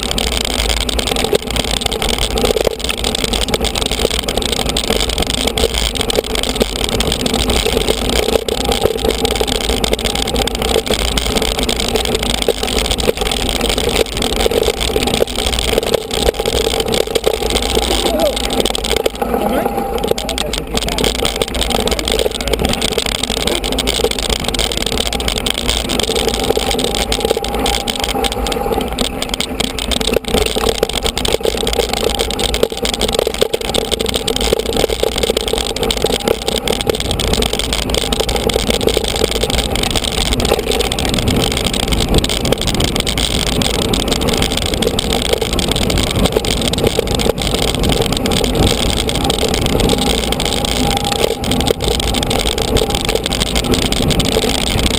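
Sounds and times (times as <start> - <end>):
bike tyres rumbling on gravel: 0.0 - 54.9
wind on microphone: 0.0 - 54.9.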